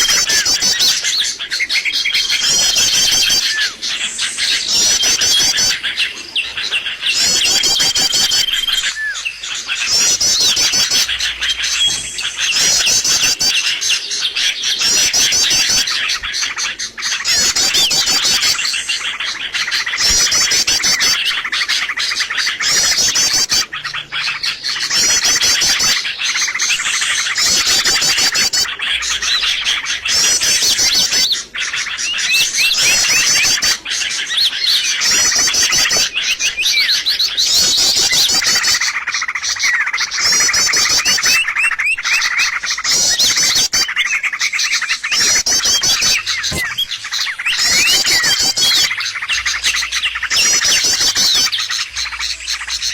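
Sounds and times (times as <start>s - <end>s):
songbirds chirping and twittering: 0.0s - 52.9s.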